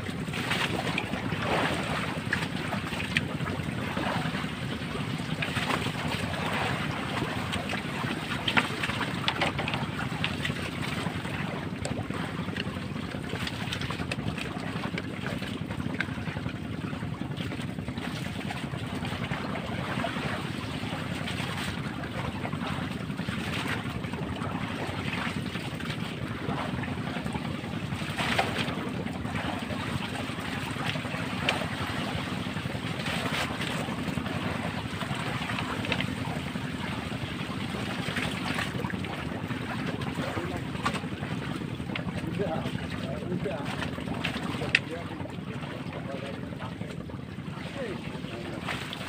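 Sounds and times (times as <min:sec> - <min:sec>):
steady low hum: 0:00.0 - 0:49.0
water lapping: 0:00.0 - 0:49.0.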